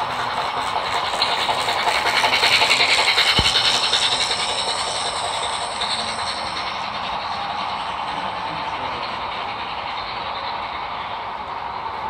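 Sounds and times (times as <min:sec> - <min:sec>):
model train rolling clatter: 0:00.0 - 0:12.0.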